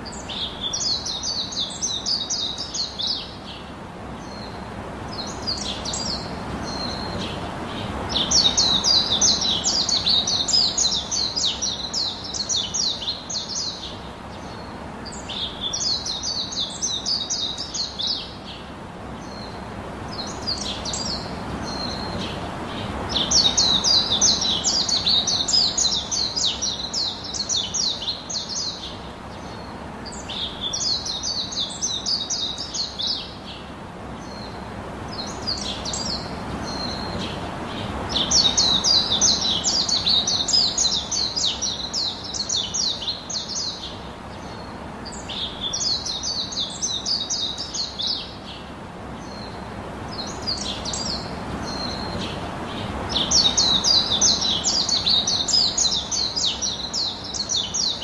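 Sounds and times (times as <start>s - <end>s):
low background noise: 0.0s - 58.0s
small birds twittering: 0.0s - 58.0s.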